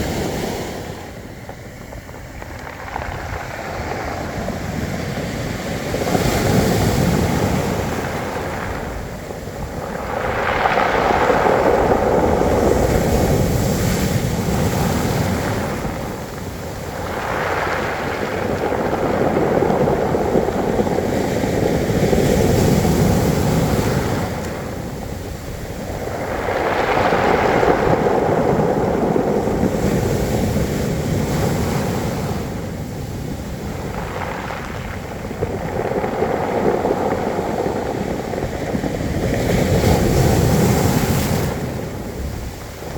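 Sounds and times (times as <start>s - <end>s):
waves breaking on pebble beach: 0.0s - 42.9s.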